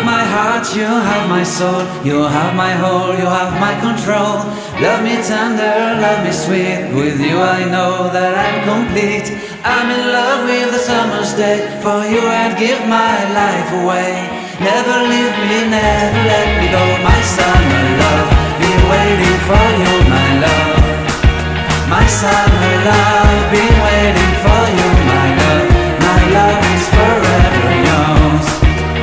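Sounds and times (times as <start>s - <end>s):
song with lead vocal and bass: 0.0s - 29.0s.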